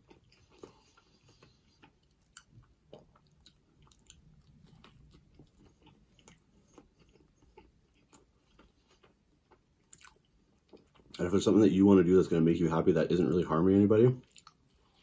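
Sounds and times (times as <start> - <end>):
faint chewing with mouth clicks: 0.0 - 11.3, 14.2 - 15.0.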